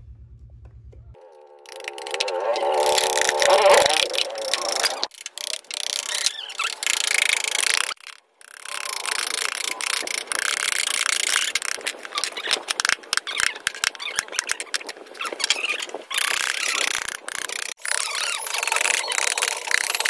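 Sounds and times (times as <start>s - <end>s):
chisels carving wood: 1.7s - 20.0s.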